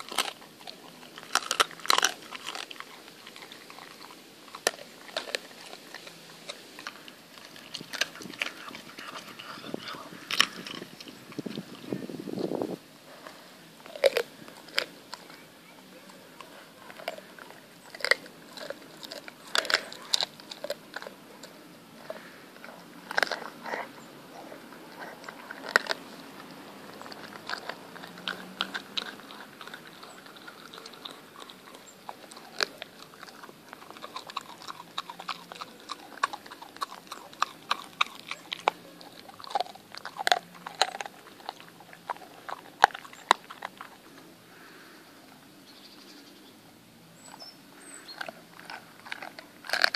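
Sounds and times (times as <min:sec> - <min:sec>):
sharp crunches of bites: 0:00.0 - 0:12.6, 0:13.2 - 0:15.2, 0:16.9 - 0:24.0, 0:25.0 - 0:44.2, 0:48.0 - 0:49.9
dog chewing raw meat: 0:00.0 - 0:44.4, 0:47.2 - 0:49.9.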